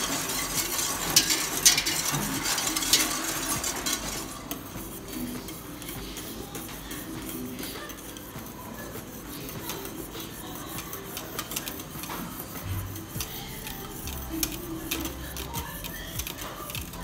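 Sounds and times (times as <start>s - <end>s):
whisk clinking in metal pot: 0.0s - 17.0s.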